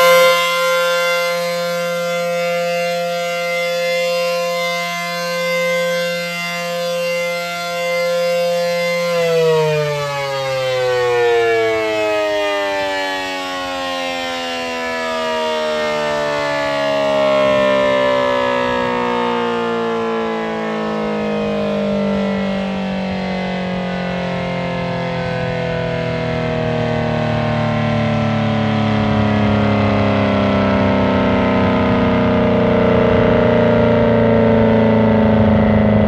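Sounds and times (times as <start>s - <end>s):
two-tone warning siren: 0.0s - 36.0s.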